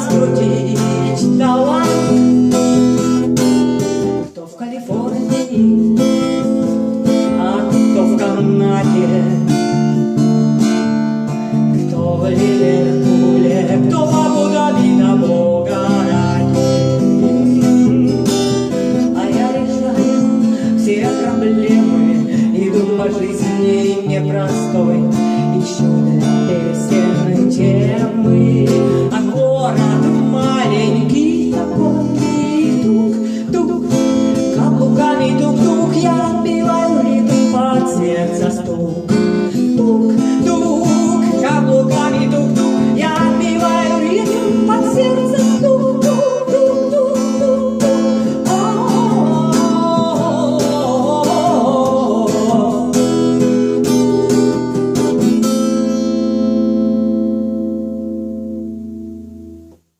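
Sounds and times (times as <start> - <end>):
strummed acoustic guitar: 0.0 - 59.9.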